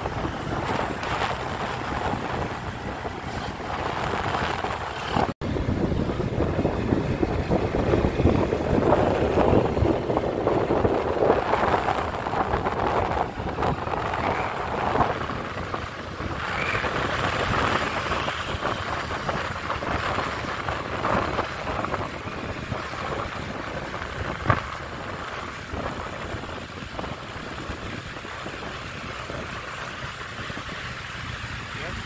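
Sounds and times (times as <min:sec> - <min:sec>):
passing traffic: 0:00.0 - 0:32.0.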